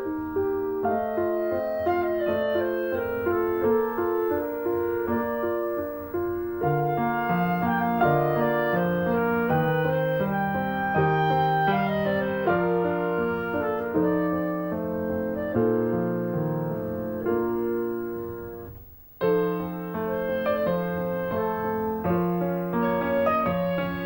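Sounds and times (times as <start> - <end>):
instrumental piano music: 0.0 - 24.0.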